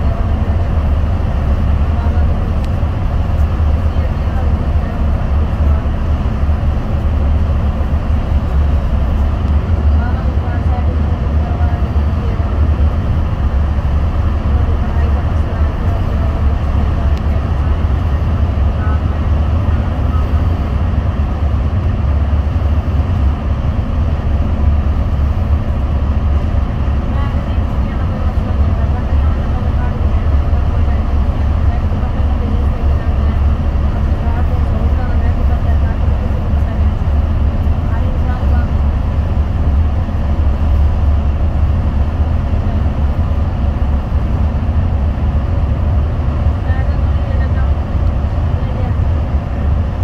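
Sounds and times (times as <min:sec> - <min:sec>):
vehicle road rumble from inside cabin: 0:00.0 - 0:50.0.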